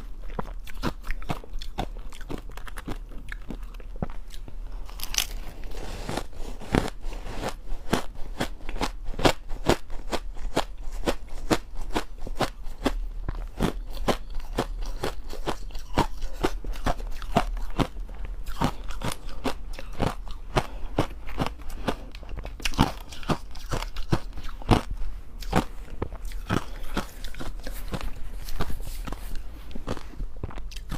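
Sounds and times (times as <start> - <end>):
low steady hum: 0.0 - 30.9.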